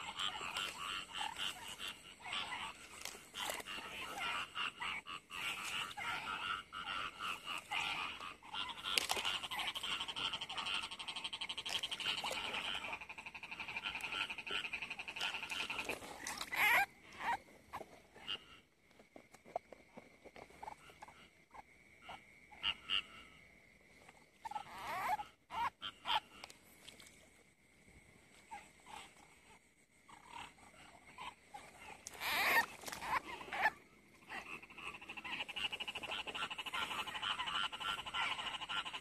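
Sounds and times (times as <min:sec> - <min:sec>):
frogs croaking in chorus: 0:00.0 - 0:39.0.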